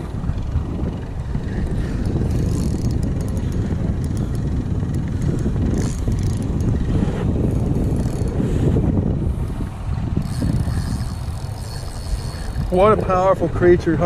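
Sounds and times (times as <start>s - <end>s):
fishing reel ticking: 0.0s - 8.5s, 10.1s - 13.4s
wind rumbling on microphone: 0.0s - 14.0s.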